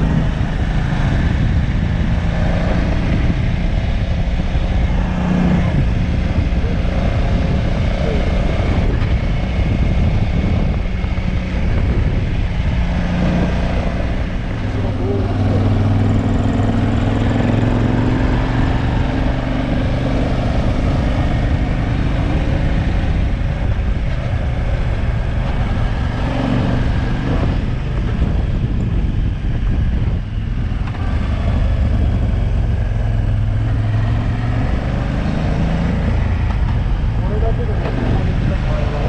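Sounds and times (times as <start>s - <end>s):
motorcycle engine running: 0.0s - 39.0s
wind noise: 0.0s - 39.0s.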